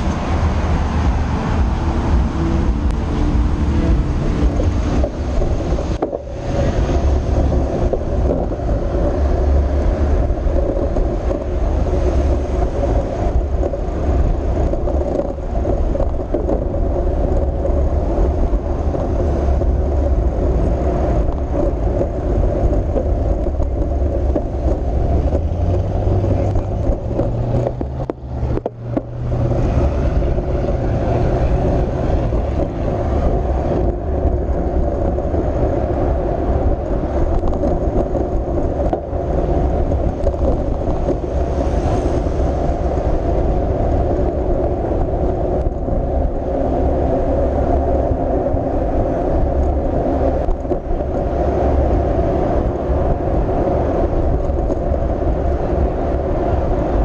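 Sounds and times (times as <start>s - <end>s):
car traffic: 0.0s - 57.0s
road noise: 0.0s - 57.0s
wind buffeting: 0.0s - 57.0s.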